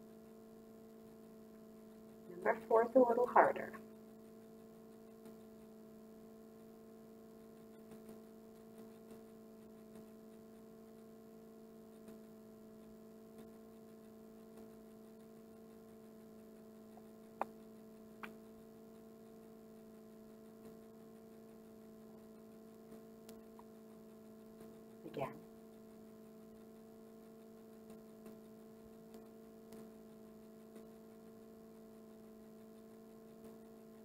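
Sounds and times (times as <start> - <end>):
faint ticks: 0.0 - 34.0
low electrical hum: 0.0 - 34.0.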